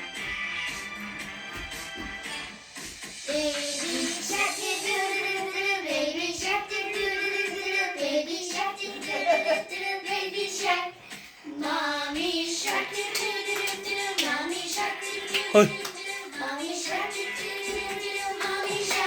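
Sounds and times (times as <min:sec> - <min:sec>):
child singing: 0:03.3 - 0:19.0.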